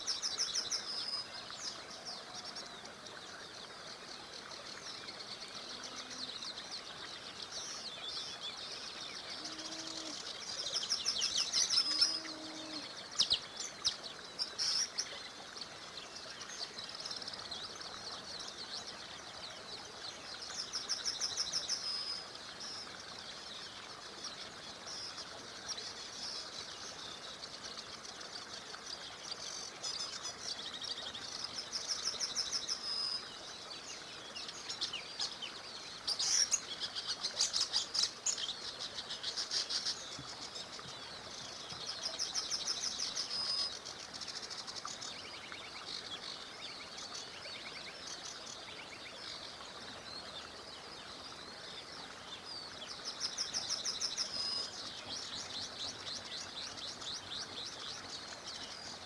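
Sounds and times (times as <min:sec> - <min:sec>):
small river rushing: 0:00.0 - 0:59.0
songbirds singing and trilling: 0:00.0 - 0:59.0.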